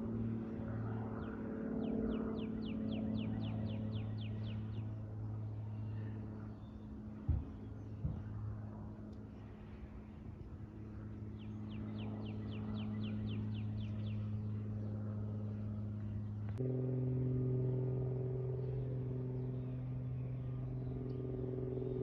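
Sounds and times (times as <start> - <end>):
propeller aircraft engine droning: 0.0 - 22.0.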